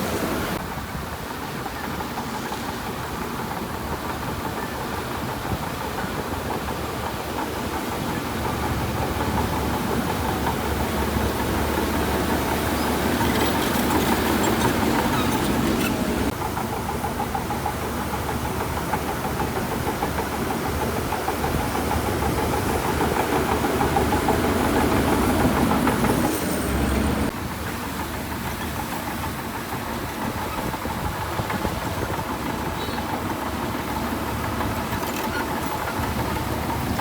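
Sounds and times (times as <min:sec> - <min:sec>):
heavy diesel machine engine: 0:00.0 - 0:37.0.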